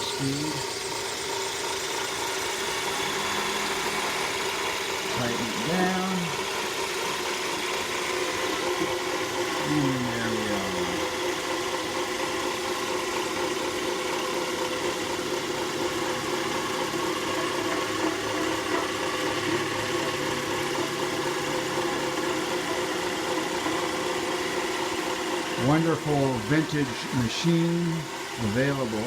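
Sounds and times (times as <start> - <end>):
drill press motor whirring: 0.0 - 29.0.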